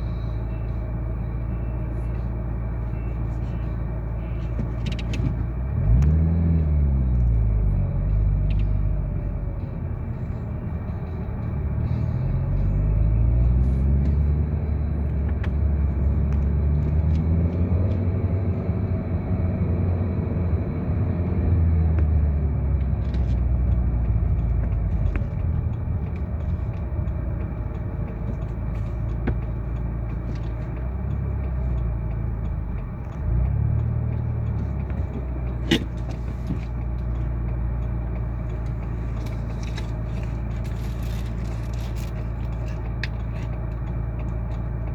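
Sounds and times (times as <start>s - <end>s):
road rumble: 0.0s - 44.9s
vehicle engine running: 0.0s - 44.9s.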